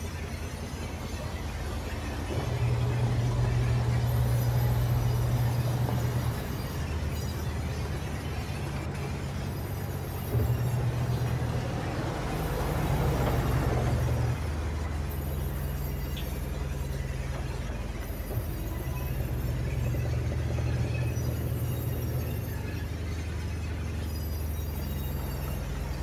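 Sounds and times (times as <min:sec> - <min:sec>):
band saw motor hum: 0:00.0 - 0:26.0.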